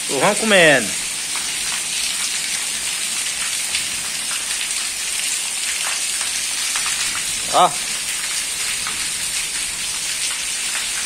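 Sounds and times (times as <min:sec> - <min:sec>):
heavy rain hissing: 0:00.0 - 0:11.0
drips ticking: 0:00.1 - 0:11.0.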